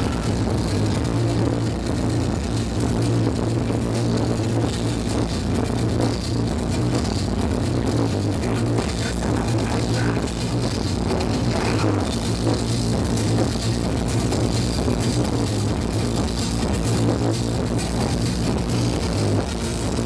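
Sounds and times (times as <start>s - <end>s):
electronic music through loud pa: 0.0s - 20.0s
heavy synth bass: 0.0s - 20.0s.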